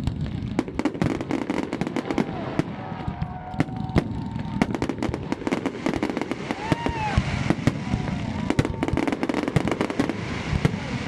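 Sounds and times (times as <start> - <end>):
distant fireworks rumble: 0.0 - 11.0
fireworks bangs and crackles: 0.0 - 11.0.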